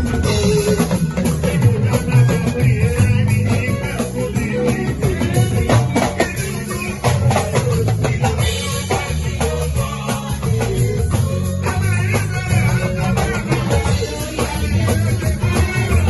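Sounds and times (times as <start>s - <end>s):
bass line: 0.0s - 16.0s
drum kit beating: 0.0s - 16.0s
guitar: 0.0s - 16.0s.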